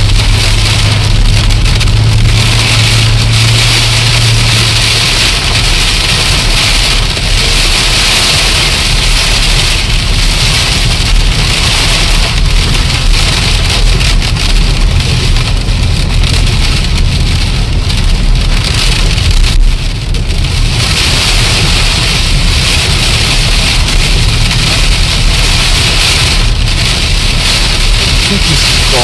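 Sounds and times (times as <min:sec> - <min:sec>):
low wind rumble: 0:00.0 - 0:29.0.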